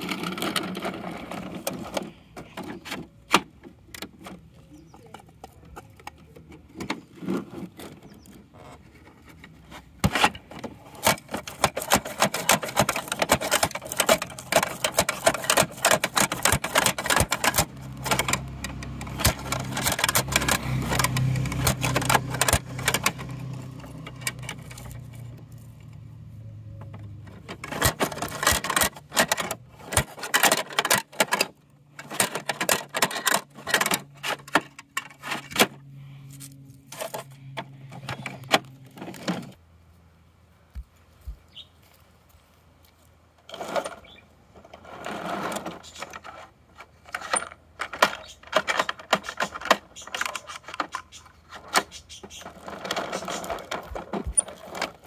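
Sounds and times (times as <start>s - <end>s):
plastic toy parts clicking and rattling: 0.0s - 26.0s, 26.8s - 35.9s, 36.9s - 39.6s, 43.4s - 55.0s.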